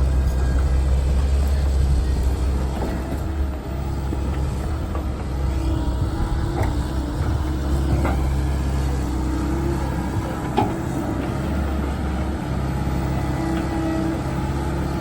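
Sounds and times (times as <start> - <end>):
higher machine hum: 0.0 - 14.5
excavator diesel engine running: 0.0 - 15.0.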